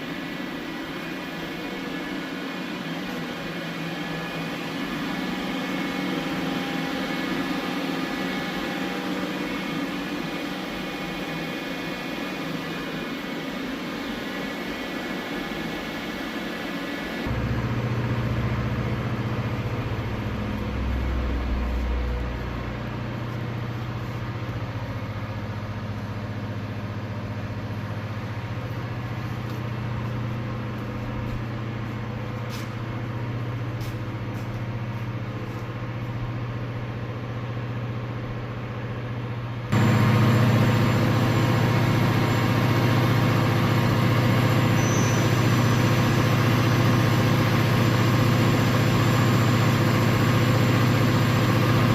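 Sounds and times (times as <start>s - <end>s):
lathe machine hum: 0.0s - 51.9s.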